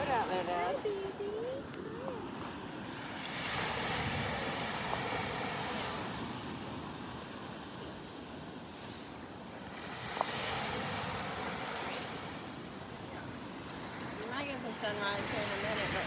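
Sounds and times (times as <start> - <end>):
small waves breaking on beach: 0.0 - 16.0.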